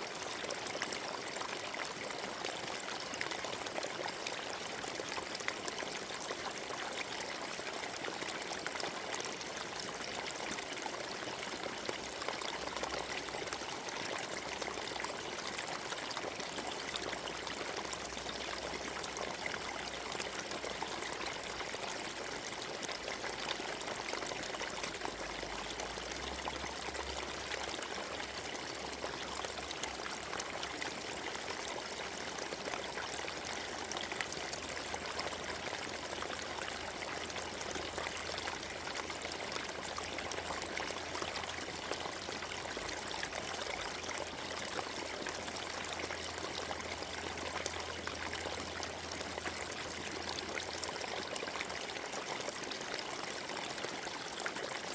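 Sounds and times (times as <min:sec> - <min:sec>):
stream running over stones: 0:00.0 - 0:54.9.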